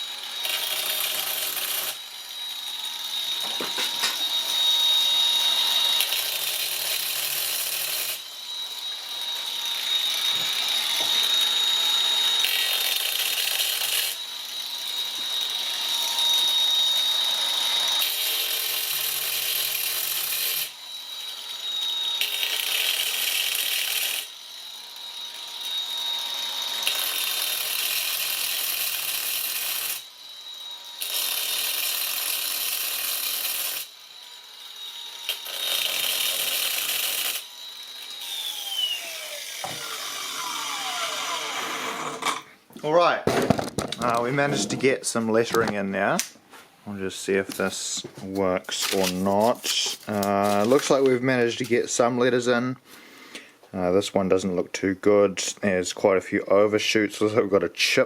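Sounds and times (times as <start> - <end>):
grinder whining cutting stone: 0.0 - 46.2, 47.1 - 52.5.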